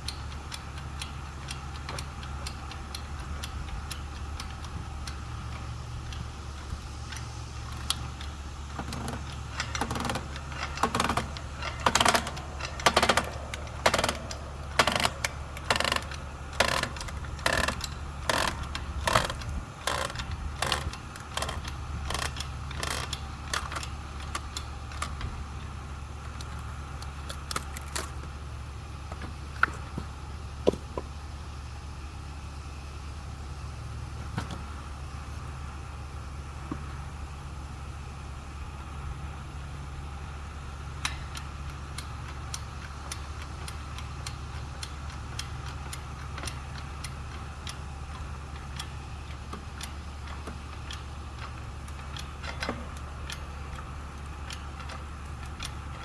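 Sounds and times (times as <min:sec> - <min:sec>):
hydraulic jack pump clicking: 0:00.0 - 0:31.3, 0:34.2 - 0:35.6, 0:41.0 - 0:56.0
steady low hum: 0:00.0 - 0:56.0.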